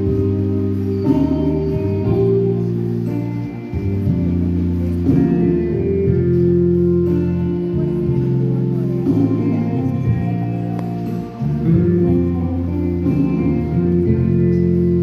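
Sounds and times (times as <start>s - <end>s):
keyboard accompaniment: 0.0s - 15.0s.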